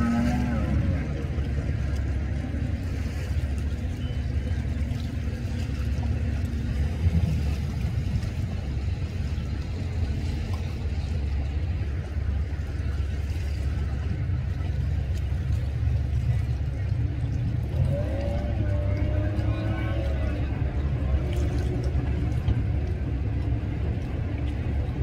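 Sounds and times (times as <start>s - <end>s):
speedboat engine rumbling: 0.0s - 25.0s.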